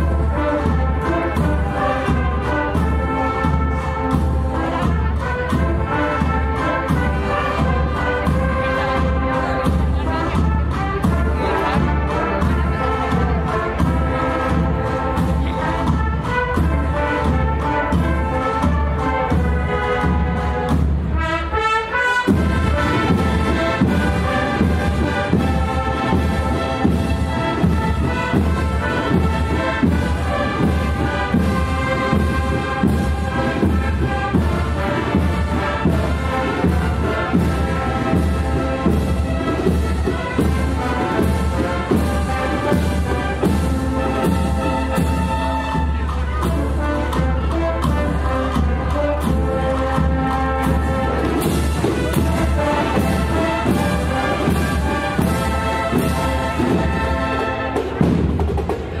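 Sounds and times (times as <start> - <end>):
brass band playing a march: 0.0 - 59.0
steady drum beat: 0.0 - 59.0.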